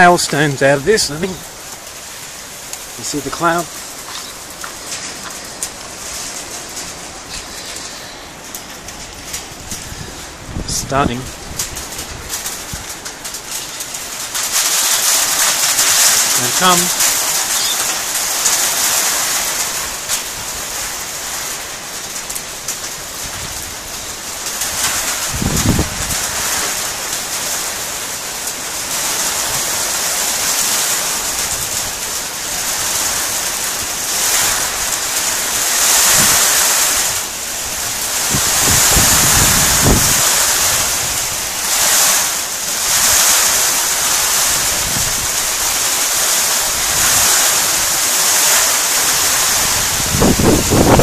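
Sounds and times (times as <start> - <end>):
wind gusts buffeting microphone: 0.0 - 21.4, 22.4 - 27.1, 30.6 - 51.0
heavy rain and hail pelting: 0.0 - 51.0.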